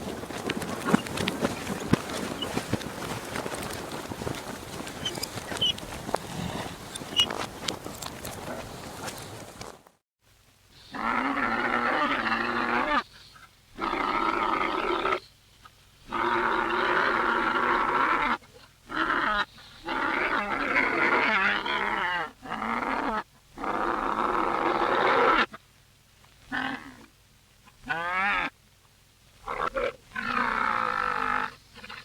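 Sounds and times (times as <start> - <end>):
reversed camel calls: 0.0 - 9.6, 10.8 - 15.3, 16.1 - 25.6, 27.8 - 28.6, 29.4 - 32.0.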